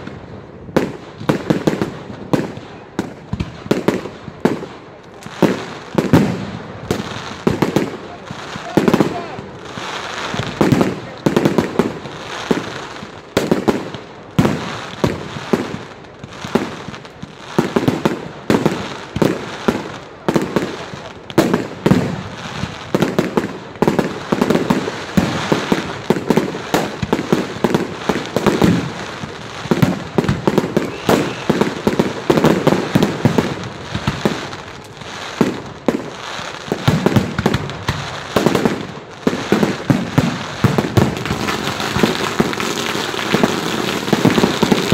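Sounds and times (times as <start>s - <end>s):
firework crackling: 0.0s - 44.9s.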